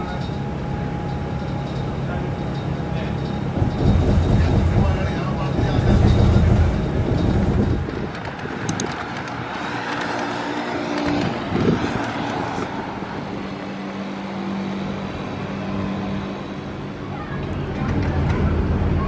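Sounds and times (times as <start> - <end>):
vehicle interior rumble: 0.0 - 13.7, 16.7 - 19.0
road traffic passing: 0.0 - 19.0.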